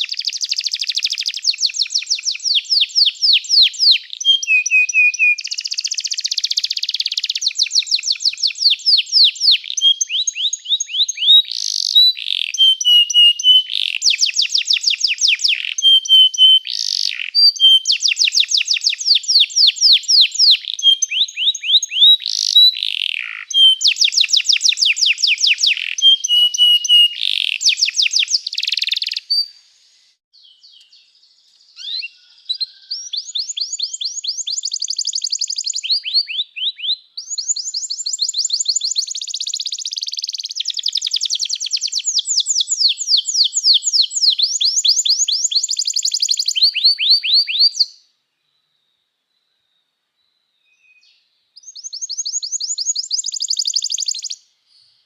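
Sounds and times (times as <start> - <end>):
canary singing trills: 0.0 - 29.6, 30.4 - 48.0, 51.0 - 54.4.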